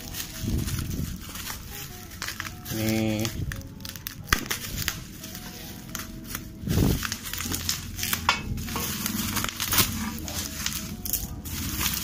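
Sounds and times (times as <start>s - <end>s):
bubble wrap crinkling: 0.0s - 12.0s
faint background music: 0.0s - 12.0s.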